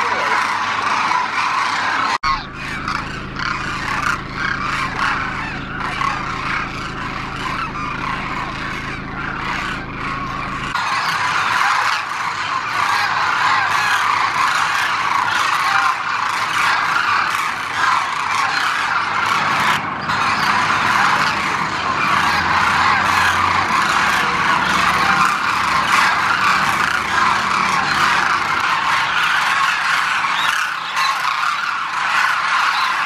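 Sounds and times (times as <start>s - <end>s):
flock of cranes calling: 0.0s - 33.0s.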